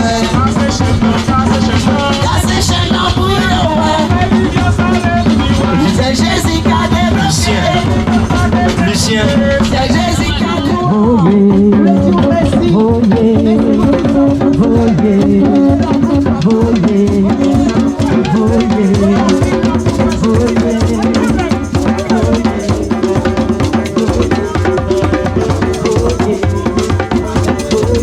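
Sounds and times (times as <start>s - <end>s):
drums and rattles: 0.0s - 28.0s
held melodic notes: 0.0s - 28.0s
music with percussion beat: 0.0s - 28.0s.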